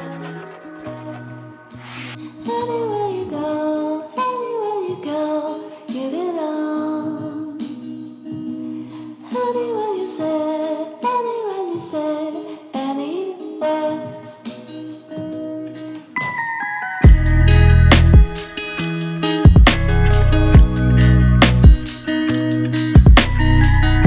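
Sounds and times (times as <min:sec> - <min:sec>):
song with sliding vocals: 0:00.0 - 0:24.0.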